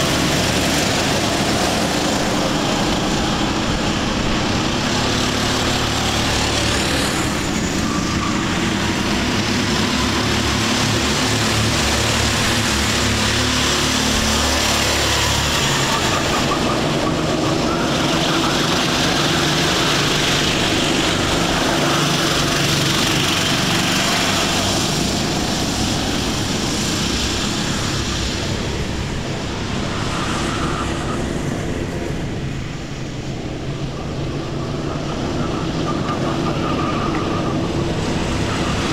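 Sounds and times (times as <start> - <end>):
go-kart engines buzzing: 0.0 - 38.9
go-karts passing: 0.0 - 38.9.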